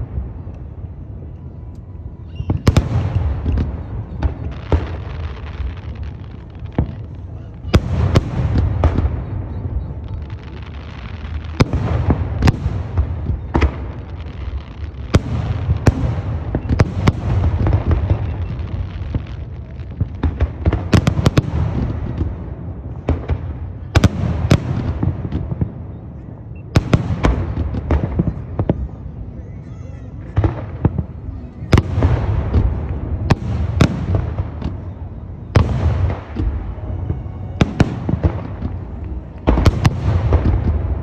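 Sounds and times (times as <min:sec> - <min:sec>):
continuous low rumble: 0:00.0 - 0:41.0
fireworks bangs echoing: 0:02.3 - 0:29.3, 0:30.1 - 0:41.0.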